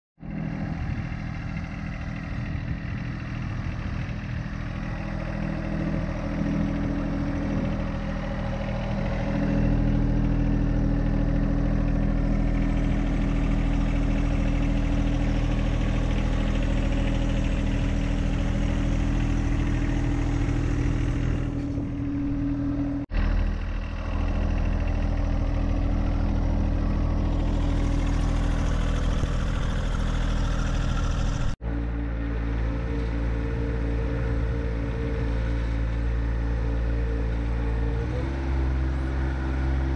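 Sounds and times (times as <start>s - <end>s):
tractor diesel engine running: 0.2s - 39.9s.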